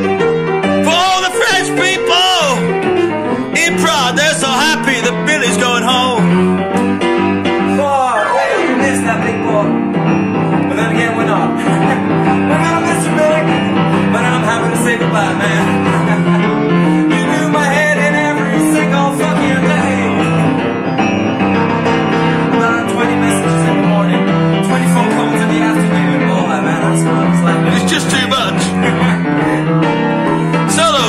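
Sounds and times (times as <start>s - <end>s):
blues piano: 0.0s - 31.0s.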